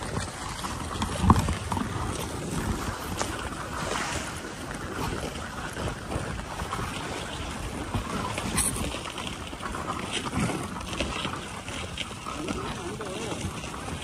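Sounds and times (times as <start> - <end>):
sled runners scraping over snow: 0.0 - 14.0
wind buffeting microphone: 0.0 - 14.0.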